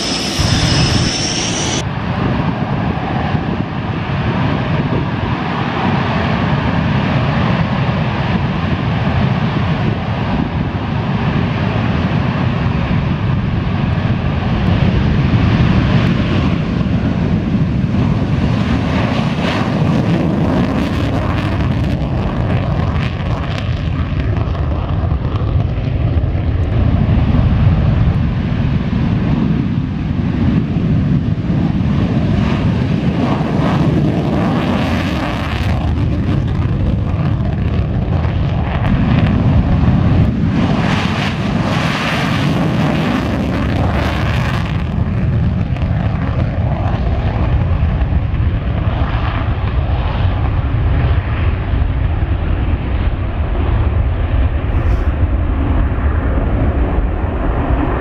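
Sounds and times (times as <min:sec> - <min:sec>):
jet engines rumbling with hiss: 0:00.0 - 0:58.0.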